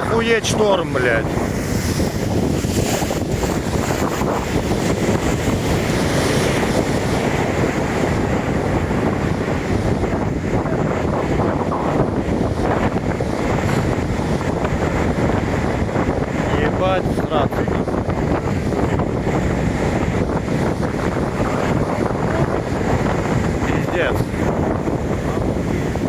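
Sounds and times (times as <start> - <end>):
sea surf: 0.0 - 26.0
wind buffeting microphone: 0.0 - 26.0.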